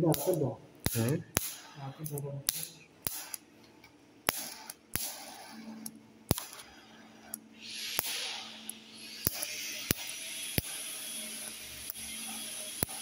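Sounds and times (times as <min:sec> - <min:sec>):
welding arc low buzz: 0:00.0 - 0:03.5, 0:04.2 - 0:13.0
welding hiss: 0:00.0 - 0:03.5, 0:04.3 - 0:13.0
welding arc snaps: 0:00.0 - 0:13.0.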